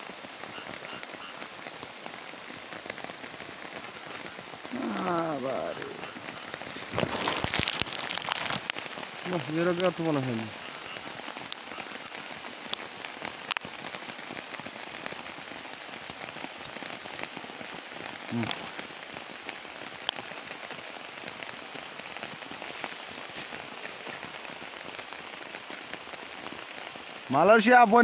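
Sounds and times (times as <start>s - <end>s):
close raindrop ticks: 0.0s - 28.0s
steady rain falling: 0.0s - 28.0s.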